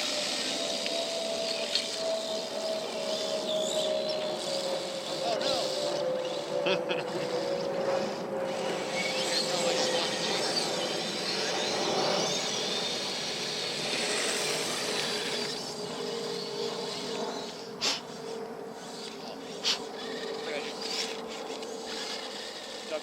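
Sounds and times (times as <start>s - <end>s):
electric motor whirring whine: 0.0s - 23.0s.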